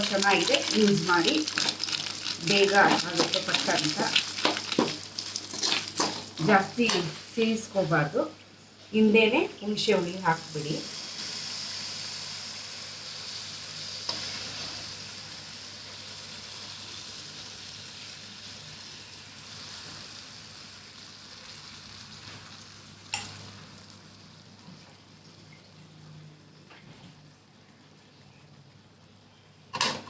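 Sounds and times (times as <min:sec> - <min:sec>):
sizzling in hot oil: 0:00.0 - 0:25.4.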